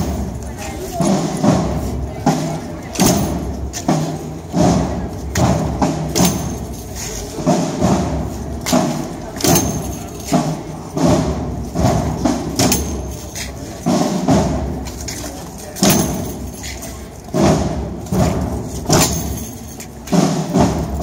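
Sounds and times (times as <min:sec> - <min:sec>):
heavy march drum thumps: 0:00.0 - 0:21.0.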